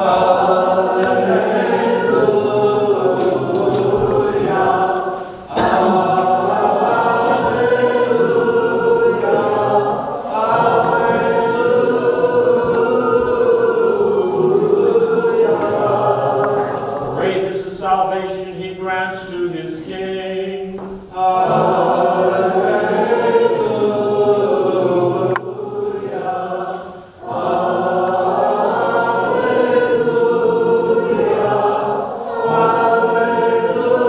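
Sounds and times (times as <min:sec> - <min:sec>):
voices singing unaccompanied chant: 0:00.0 - 0:34.0.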